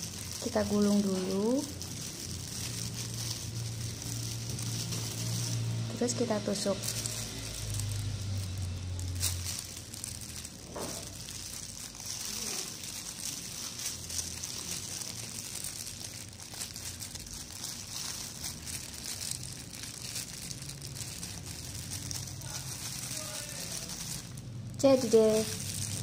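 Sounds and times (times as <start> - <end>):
plastic gloves crinkling: 0.0 - 26.0.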